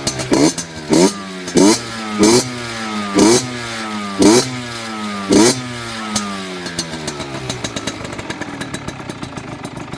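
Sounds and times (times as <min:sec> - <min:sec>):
two-stroke engine revving: 0:00.0 - 0:09.9.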